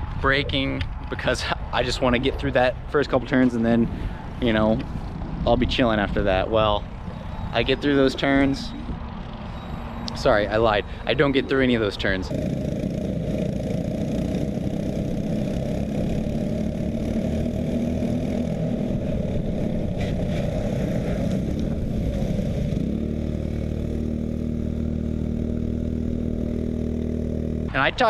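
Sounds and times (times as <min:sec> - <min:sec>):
kart engine running: 0:03.4 - 0:28.0.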